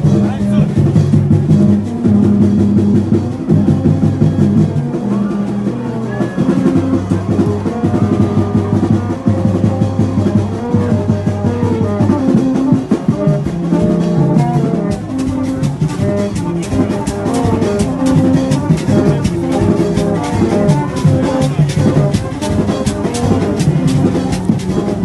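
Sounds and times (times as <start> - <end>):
music with drums and held notes: 0.0 - 25.0
sharp percussion strikes: 0.0 - 25.0.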